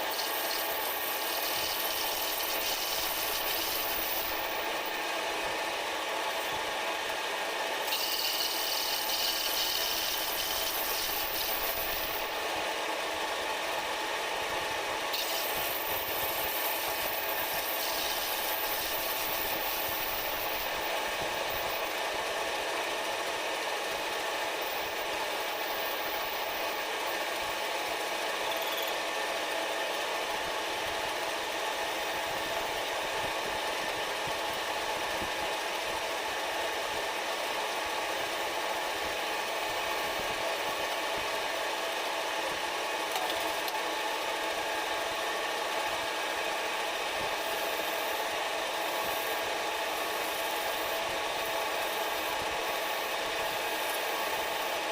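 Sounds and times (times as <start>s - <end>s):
metal lathe running: 0.0s - 30.0s, 38.0s - 54.8s.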